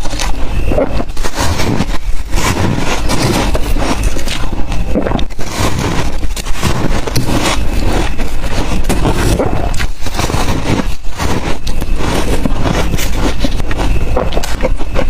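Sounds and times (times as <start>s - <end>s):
ice being crunched: 0.0s - 15.0s.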